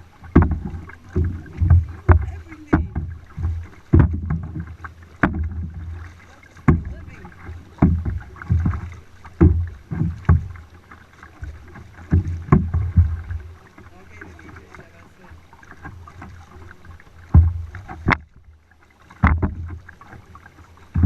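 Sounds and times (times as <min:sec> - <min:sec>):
paddle strokes and knocks: 0:00.0 - 0:21.0.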